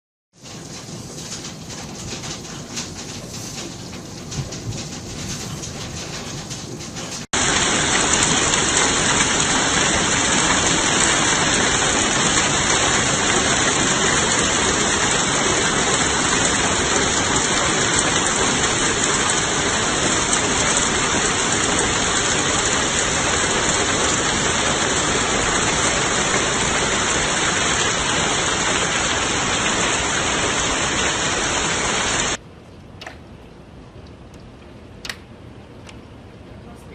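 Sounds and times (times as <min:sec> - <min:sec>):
heavy downpour: 0:00.3 - 0:32.4
hail pelting down: 0:00.4 - 0:32.4.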